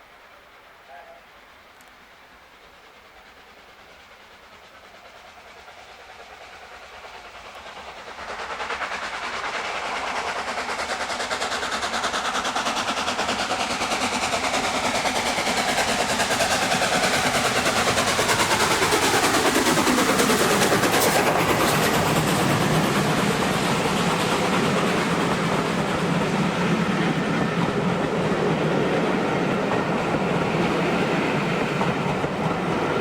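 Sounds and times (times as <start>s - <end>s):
steam train approaching: 0.0s - 33.0s.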